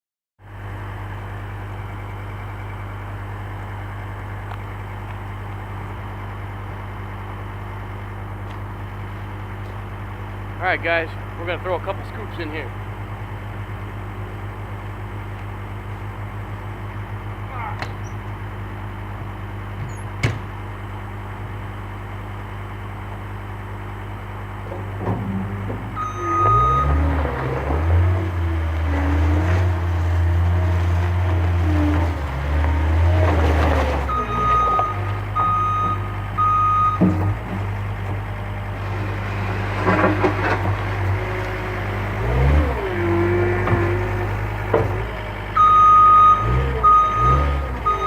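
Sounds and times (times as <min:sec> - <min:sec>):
engine idling: 0:00.4 - 0:48.0.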